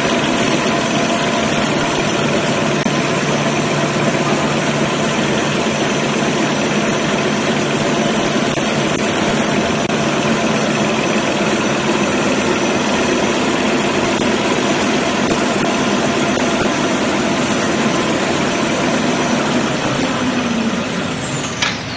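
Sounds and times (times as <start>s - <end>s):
paper rewinding machine running: 0.0s - 21.6s
high machine whine falling: 0.0s - 21.9s.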